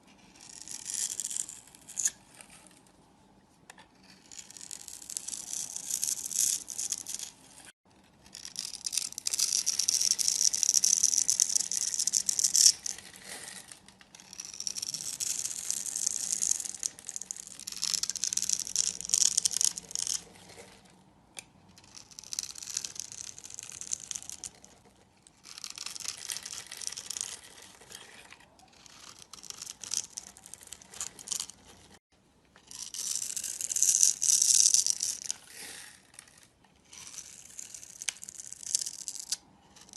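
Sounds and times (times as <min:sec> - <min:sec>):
blade scraping soap: 0:00.0 - 0:02.9, 0:03.7 - 0:32.0, 0:32.6 - 0:39.9.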